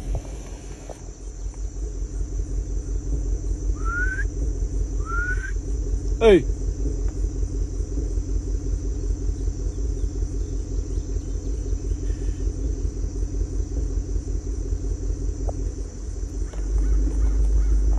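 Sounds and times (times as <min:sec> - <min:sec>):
vehicle engine idling: 0:00.0 - 0:17.9.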